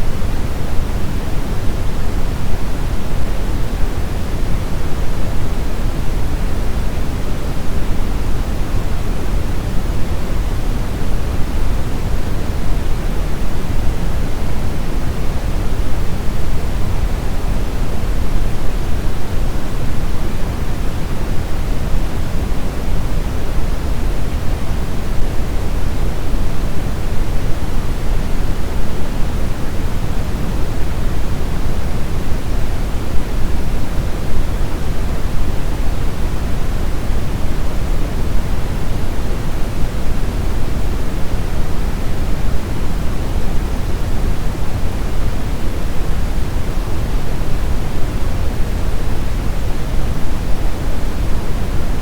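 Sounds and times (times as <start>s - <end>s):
brown noise hiss: 0.0s - 52.0s.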